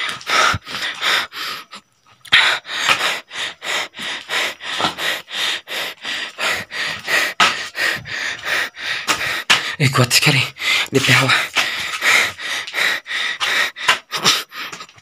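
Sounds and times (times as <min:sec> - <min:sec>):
man panting hard: 0:00.0 - 0:15.0.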